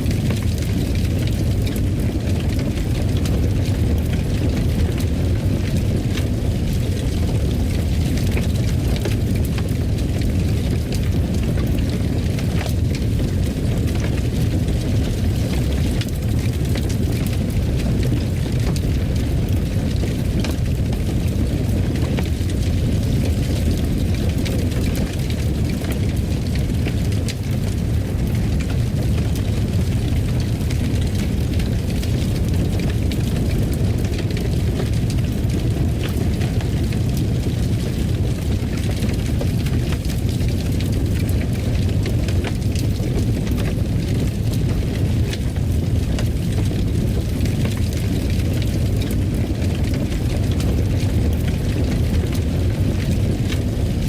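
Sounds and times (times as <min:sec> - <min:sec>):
fire crackling and popping: 0:00.0 - 0:54.0
fire flames rumbling: 0:00.0 - 0:54.0.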